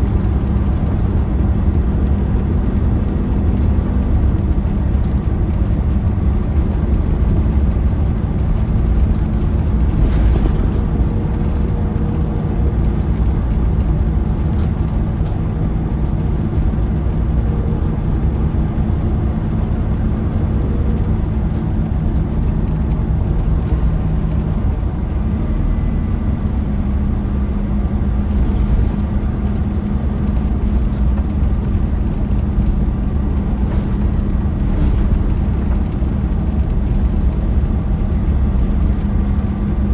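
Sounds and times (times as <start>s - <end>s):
bus engine rumble: 0.0s - 39.9s
road noise: 0.0s - 39.9s.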